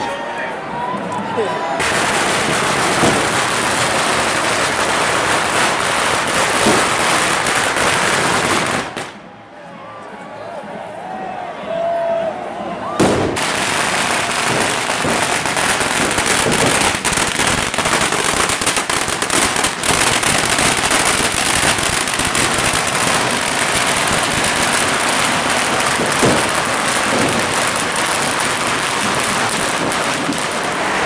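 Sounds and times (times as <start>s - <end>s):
firecrackers crackling and popping: 0.0s - 9.3s, 13.0s - 31.0s
firework bangs: 1.8s - 9.2s, 13.0s - 31.0s.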